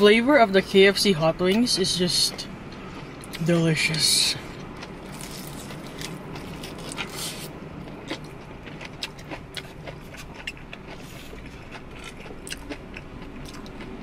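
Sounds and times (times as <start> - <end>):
steady low hum: 0.0 - 14.0
crunchy chewing: 1.5 - 14.0.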